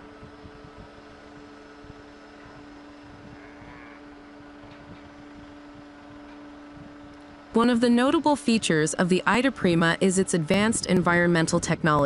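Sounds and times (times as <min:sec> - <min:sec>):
faint mechanical hum: 0:00.0 - 0:12.0.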